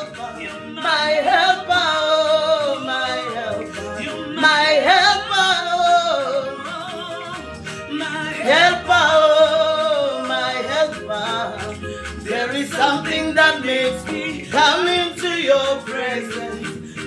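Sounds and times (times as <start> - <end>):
instrumental accompaniment: 0.0 - 17.0
person singing: 0.0 - 17.0.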